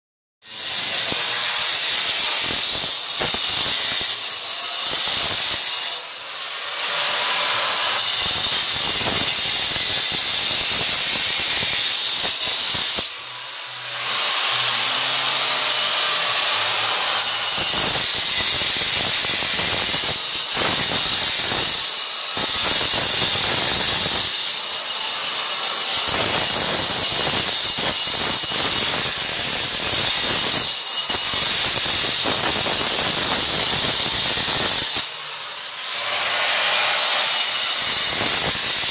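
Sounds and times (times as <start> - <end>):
angle grinder cutting concrete: 0.4 - 38.9.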